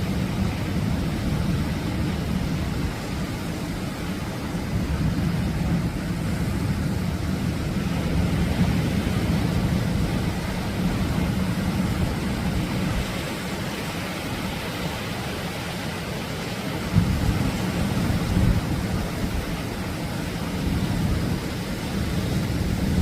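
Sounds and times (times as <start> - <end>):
ocean surf breaking on beach: 0.0 - 23.0.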